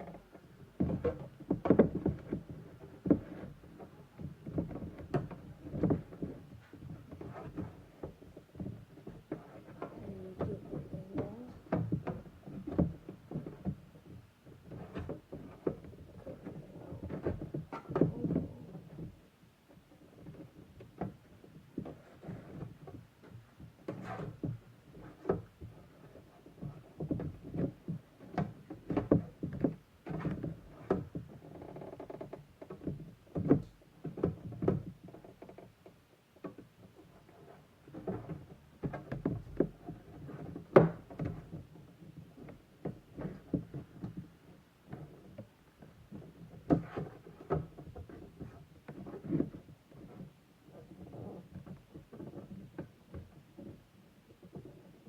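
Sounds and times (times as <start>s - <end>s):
taps knocks and rustles: 0.0s - 19.2s, 20.1s - 55.0s.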